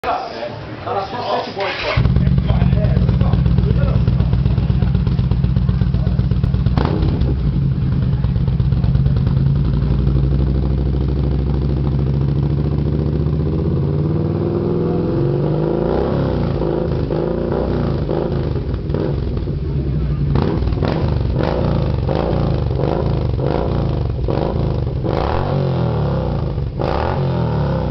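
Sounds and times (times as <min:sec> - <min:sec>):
motorcycle engine idling: 0:01.7 - 0:15.7, 0:16.4 - 0:26.8.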